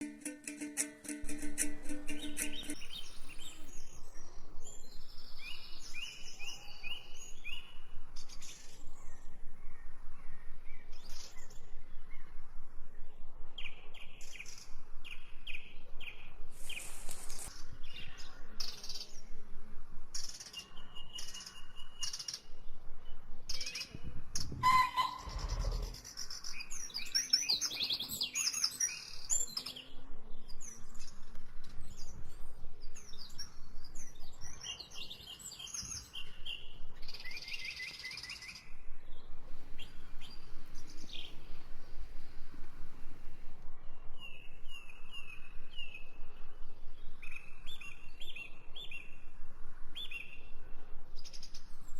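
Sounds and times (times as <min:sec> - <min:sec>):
songbirds chirping: 0:00.0 - 0:51.9.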